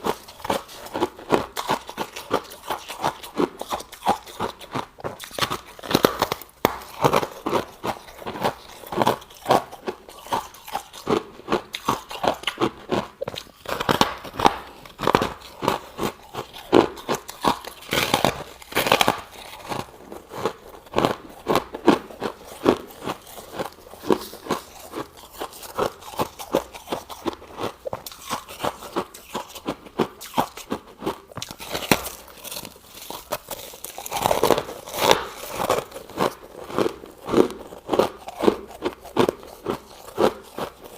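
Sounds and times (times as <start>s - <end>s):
crunching of icy frost: 0.0s - 40.9s.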